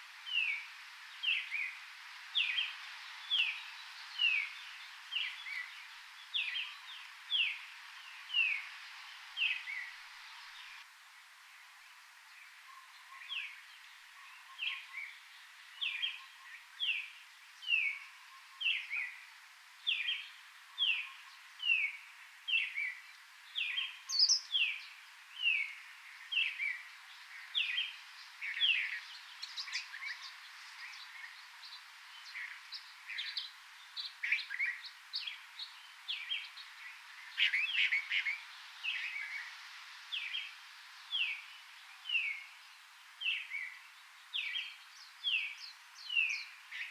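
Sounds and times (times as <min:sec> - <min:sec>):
faint background hiss: 0:00.0 - 0:46.9
bird chirping: 0:00.2 - 0:10.8, 0:12.3 - 0:46.9.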